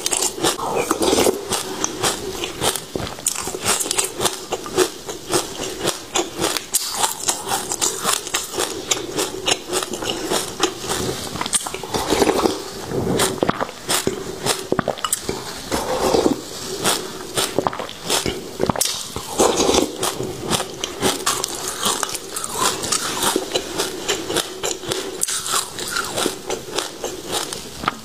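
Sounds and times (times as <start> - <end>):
seeds being chewed and crunched: 0.0 - 28.0.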